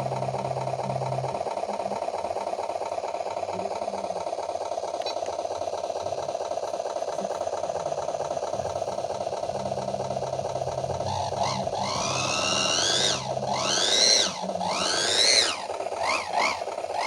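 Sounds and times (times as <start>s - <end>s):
simulated engine idling through speaker: 0.0s - 17.0s.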